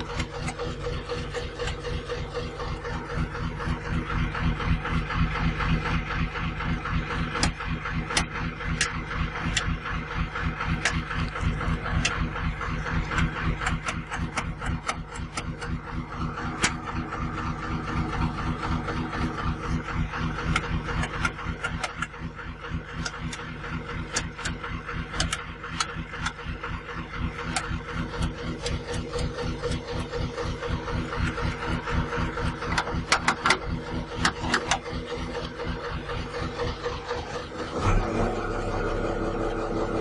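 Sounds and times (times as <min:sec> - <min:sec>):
crane diesel engine running: 0:00.0 - 0:40.0.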